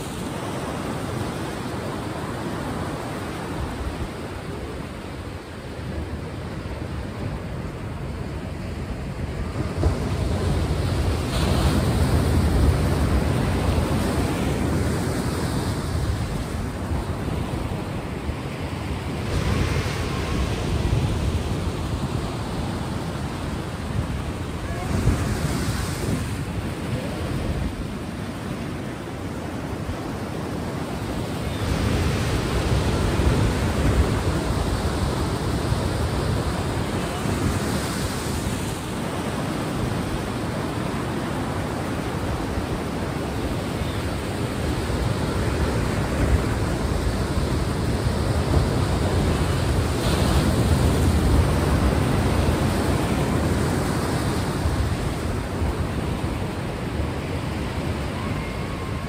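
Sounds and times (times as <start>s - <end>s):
waves washing in and drawing back: 0.0s - 59.0s.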